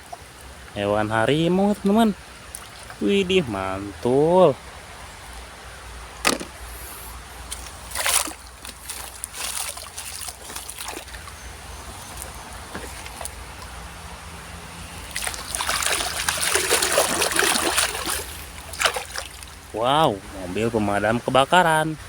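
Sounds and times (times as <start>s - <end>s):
water sloshing and trickling: 0.0s - 21.8s
water splashing: 0.0s - 22.0s.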